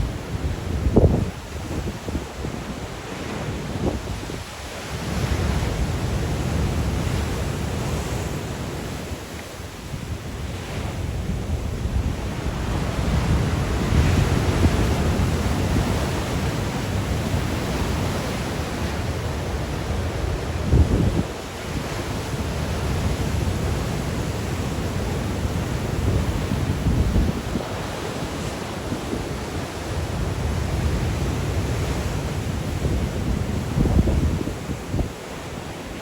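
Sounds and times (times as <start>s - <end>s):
waves breaking on shore: 0.0s - 36.0s
wind buffeting microphone: 0.0s - 36.0s.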